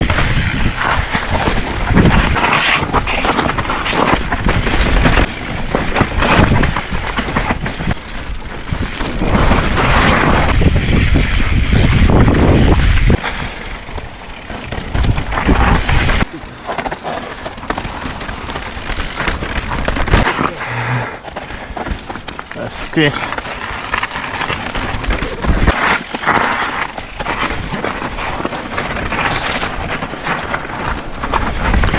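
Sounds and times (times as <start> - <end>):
bike rattling over rocks: 0.0 - 31.9
wind rumbling on microphone: 0.0 - 31.9.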